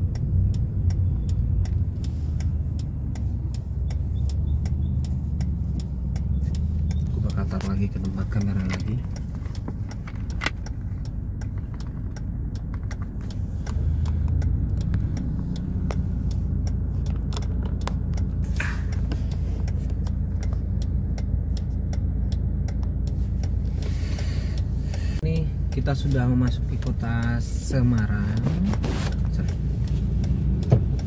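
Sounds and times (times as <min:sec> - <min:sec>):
fast regular ticking: 0:00.0 - 0:28.4, 0:29.1 - 0:31.0
car engine idling: 0:00.0 - 0:31.0.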